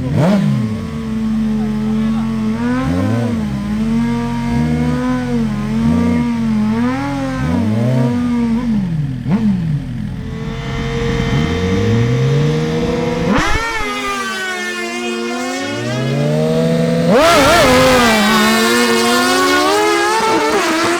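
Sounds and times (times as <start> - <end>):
motorcycle engines revving: 0.0 - 20.9.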